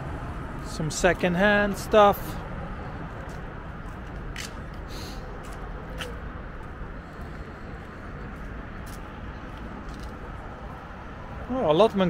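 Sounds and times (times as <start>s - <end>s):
car traffic rumble: 0.0s - 12.0s.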